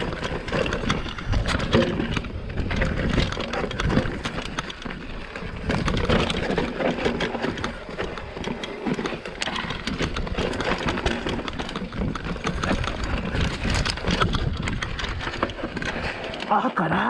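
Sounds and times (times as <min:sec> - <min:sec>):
bike rattling: 0:00.0 - 0:17.0
tyres crunching over rocks: 0:00.0 - 0:17.0.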